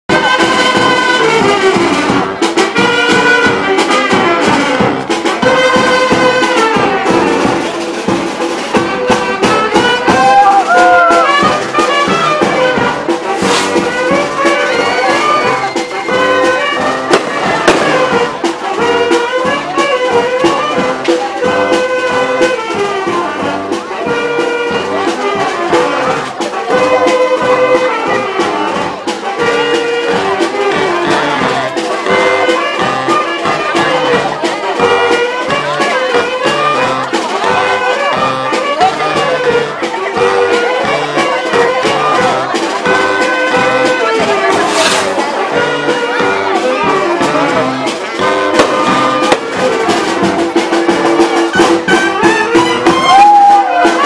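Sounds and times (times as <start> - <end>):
brass band playing: 0.1 - 54.0
percussion beat: 0.1 - 54.0.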